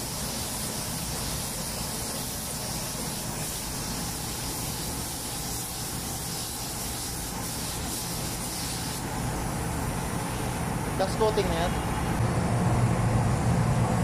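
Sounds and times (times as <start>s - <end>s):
spray gun hissing: 0.0s - 11.6s.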